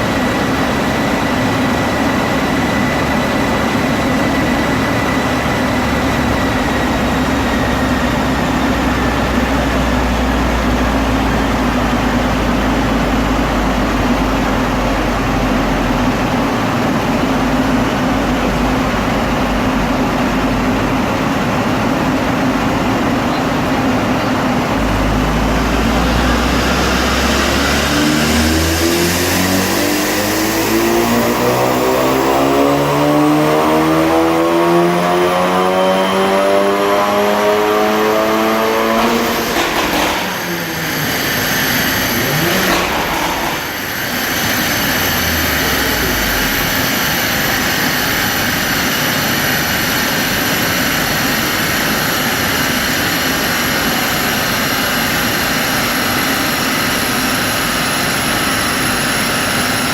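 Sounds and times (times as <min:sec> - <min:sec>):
car engine at full load: 0:00.0 - 0:59.9
dyno rollers whining down: 0:00.0 - 0:59.9.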